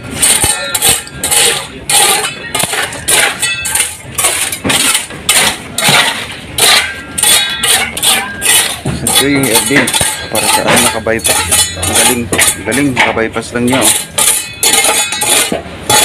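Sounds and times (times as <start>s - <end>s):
metal tool scraping concrete: 0.1s - 16.0s.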